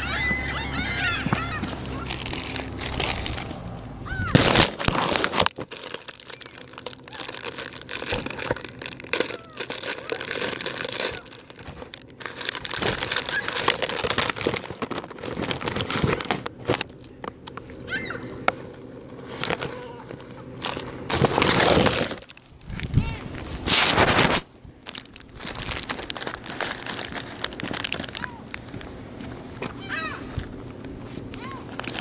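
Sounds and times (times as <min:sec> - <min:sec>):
plastic snack bag crinkling: 0:01.4 - 0:32.0.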